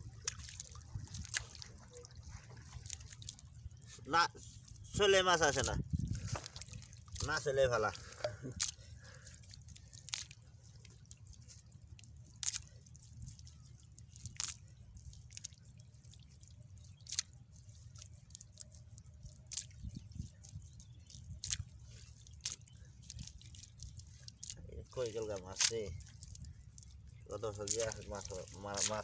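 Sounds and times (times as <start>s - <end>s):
low steady rumble: 0.0s - 25.0s
wet net drips and squelches: 0.0s - 29.0s.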